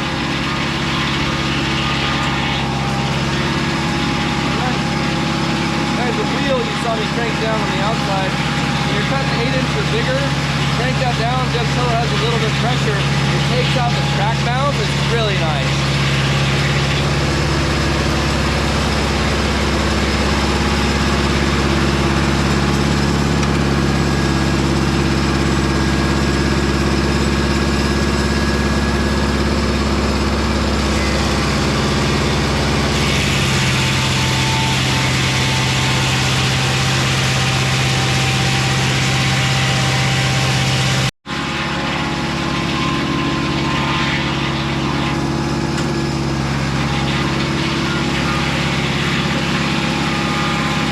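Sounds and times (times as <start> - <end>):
sawmill engine running: 0.0 - 50.9.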